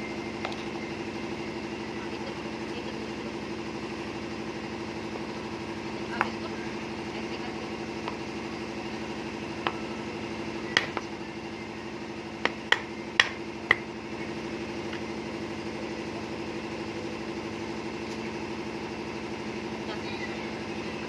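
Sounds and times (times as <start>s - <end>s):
steady motor hum: 0.0s - 21.0s.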